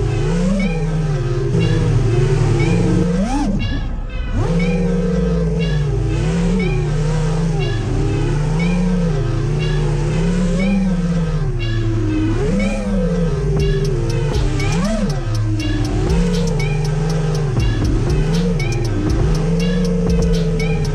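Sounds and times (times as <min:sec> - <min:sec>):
drone motors whining: 0:00.0 - 0:20.9.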